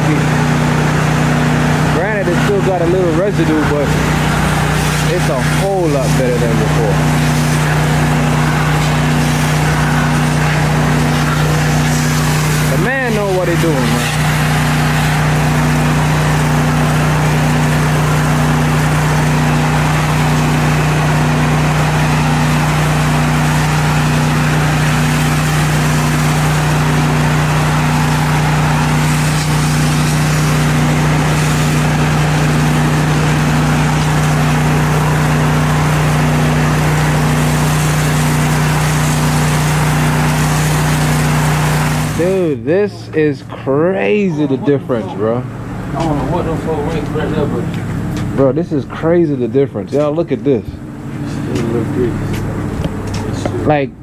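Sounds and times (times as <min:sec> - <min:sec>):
high-pressure water spraying on concrete: 0:00.0 - 0:53.9
pressure washer engine hum: 0:00.0 - 0:54.0.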